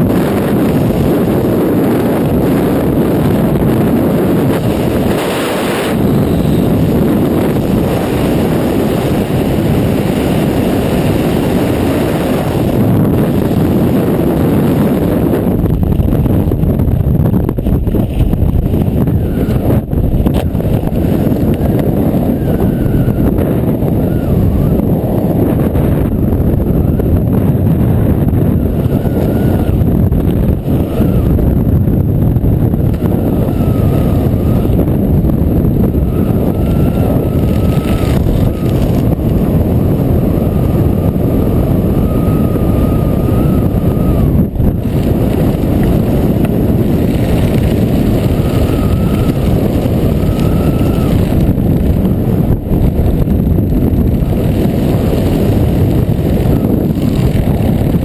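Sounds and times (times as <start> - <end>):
wind roaring over microphone: 0.0 - 58.0.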